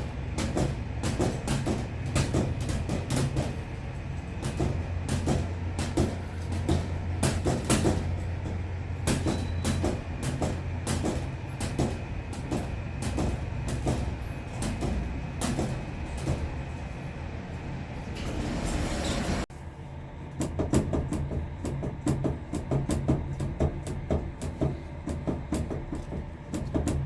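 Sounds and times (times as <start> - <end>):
elevator panel rattling and knocking: 0.0 - 16.9, 20.4 - 27.0.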